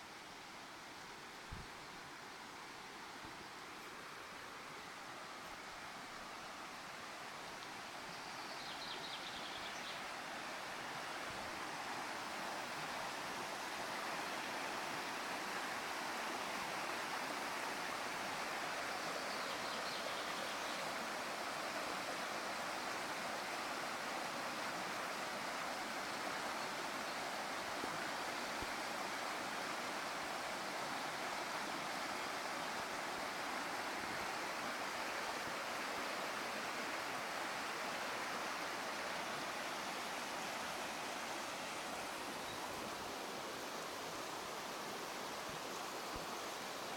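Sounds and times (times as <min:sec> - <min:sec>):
flowing water: 0:00.0 - 0:46.9.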